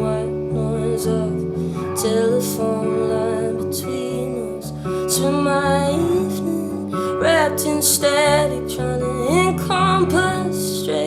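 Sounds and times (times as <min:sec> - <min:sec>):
guitar chords: 0:00.0 - 0:11.0
person singing: 0:00.0 - 0:11.0.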